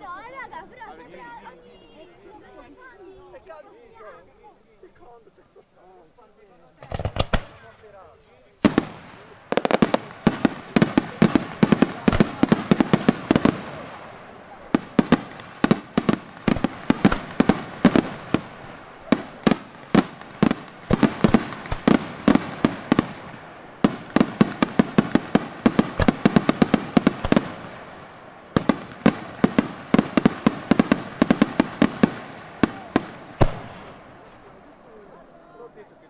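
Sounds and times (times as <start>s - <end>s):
firework bangs: 6.8s - 35.7s.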